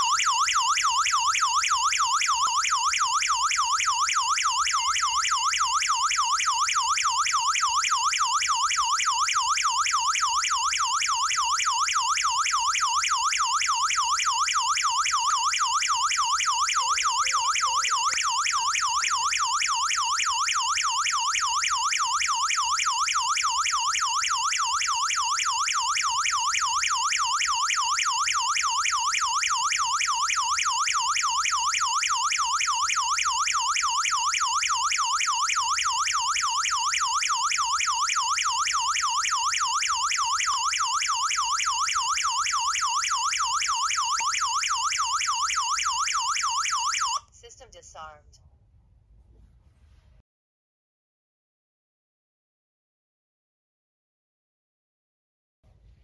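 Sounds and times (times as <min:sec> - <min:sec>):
alarm siren warbling: 0:00.0 - 0:47.9.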